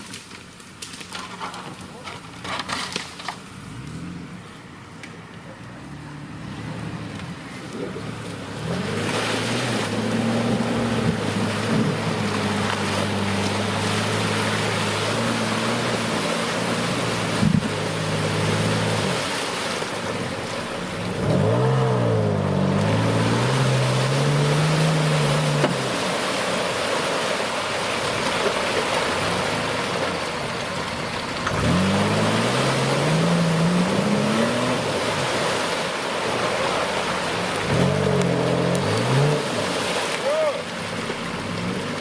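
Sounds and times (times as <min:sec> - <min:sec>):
tyres churning through mud: 0:00.0 - 0:42.0
suv engine under load: 0:00.7 - 0:42.0.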